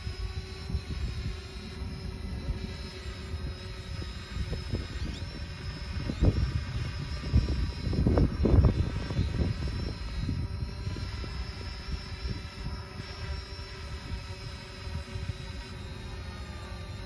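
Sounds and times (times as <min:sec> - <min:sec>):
distant drone propeller whine: 0:00.0 - 0:17.0
wind buffeting microphone: 0:00.0 - 0:17.0.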